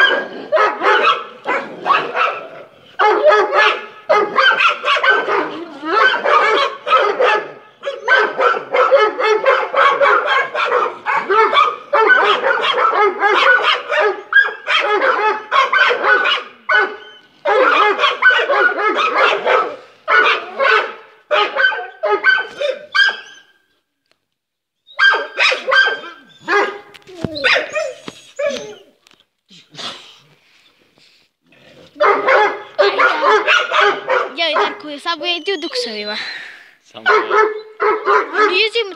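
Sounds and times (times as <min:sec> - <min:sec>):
dog barking rapidly: 0:00.0 - 0:23.3, 0:25.0 - 0:28.6, 0:32.0 - 0:35.8, 0:37.0 - 0:38.9.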